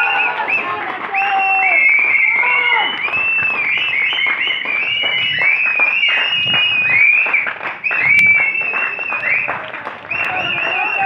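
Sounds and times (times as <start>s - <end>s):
group clapping: 0.0s - 11.0s
people whistling: 0.0s - 11.0s.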